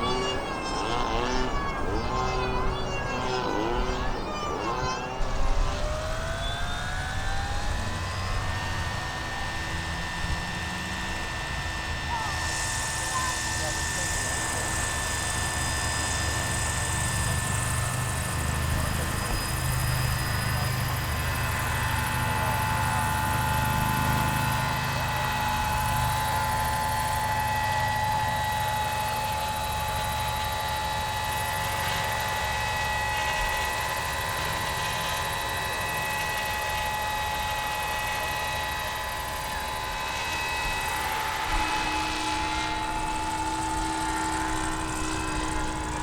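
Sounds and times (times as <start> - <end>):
model helicopter motor whine: 0.0 - 46.0.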